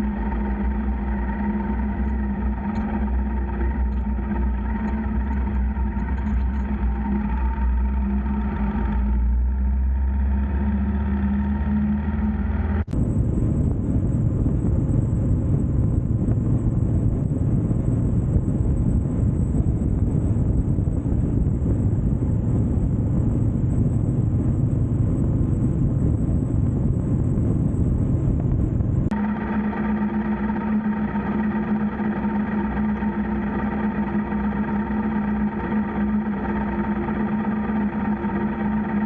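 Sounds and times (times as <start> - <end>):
motorcycle engine running: 0.0 - 39.0
wind and road noise rushing: 0.0 - 39.0.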